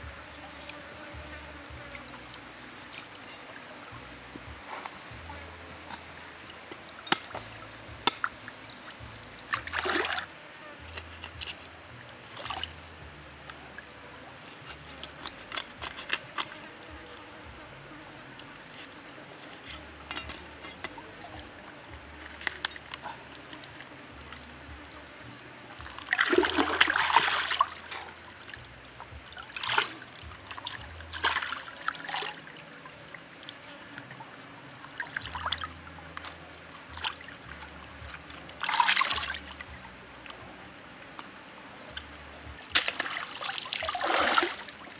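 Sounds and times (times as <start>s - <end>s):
stream trickling: 0.0s - 44.9s
water splashing: 0.0s - 44.9s.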